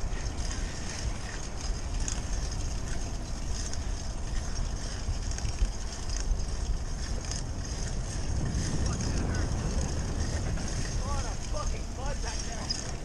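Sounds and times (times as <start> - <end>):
bicycle rattling and ticking: 0.0 - 13.0
wind rumbling on microphone: 0.0 - 13.0.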